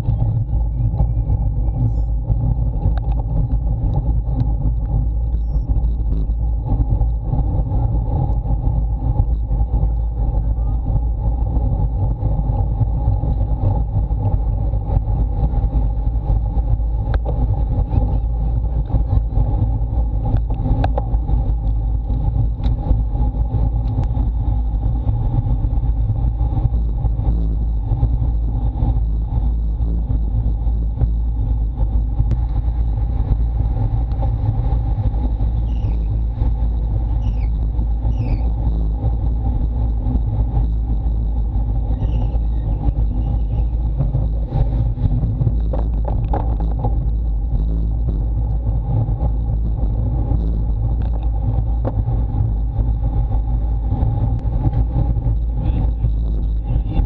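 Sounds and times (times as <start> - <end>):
road rumble: 0.0 - 57.0
wind on microphone: 0.0 - 57.0.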